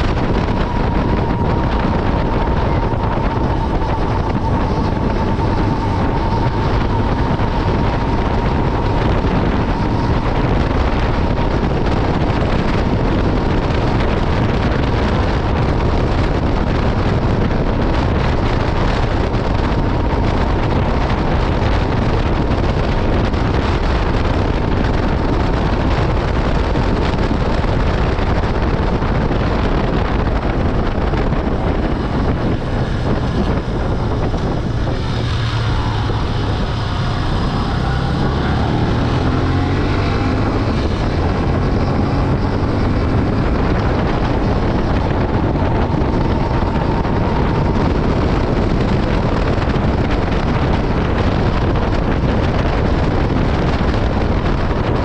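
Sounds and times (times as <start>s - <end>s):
motorcycle engine running: 0.0s - 55.0s
wind noise on microphone: 0.0s - 55.0s.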